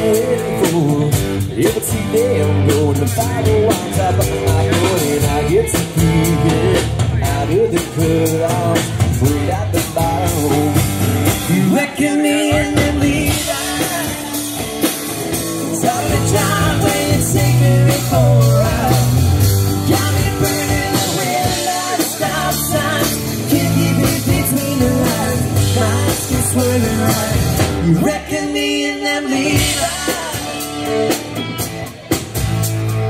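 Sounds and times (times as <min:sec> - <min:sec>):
person singing: 0:00.0 - 0:32.2
country-rock band playing: 0:00.0 - 0:33.0.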